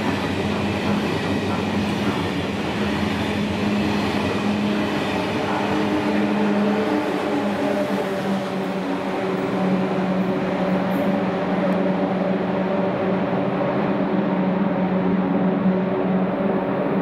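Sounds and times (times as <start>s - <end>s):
train wheel and air rushing: 0.0s - 17.0s.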